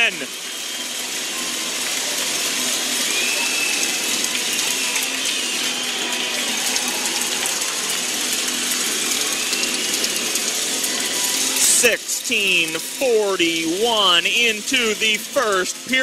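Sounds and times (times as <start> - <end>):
crowd clapping and cheering: 0.0 - 16.0.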